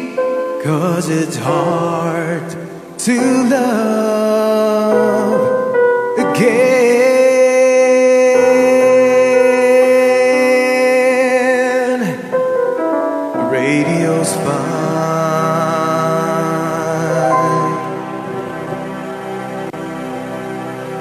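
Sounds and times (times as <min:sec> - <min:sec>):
man singing ballad: 0:00.0 - 0:12.5, 0:13.3 - 0:18.3
piano and keyboard accompaniment: 0:00.0 - 0:21.0.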